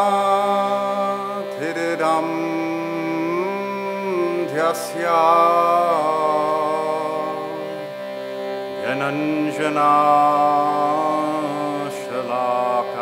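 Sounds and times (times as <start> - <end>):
harmonium drone: 0.0 - 13.0
man chanting a prayer: 0.0 - 13.0.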